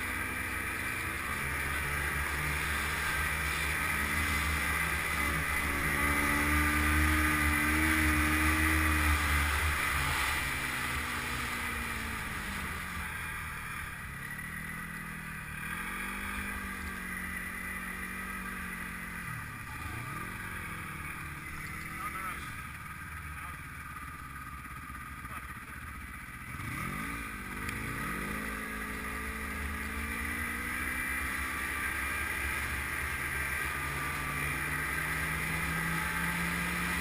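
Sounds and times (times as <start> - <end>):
snowmobile engine running: 0.0 - 37.0.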